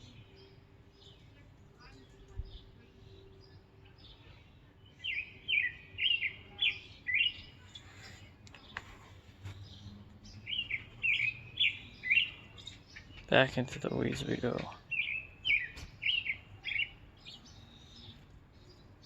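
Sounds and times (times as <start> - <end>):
bird chirping down-slurred notes: 0.0 - 8.8, 9.5 - 19.0.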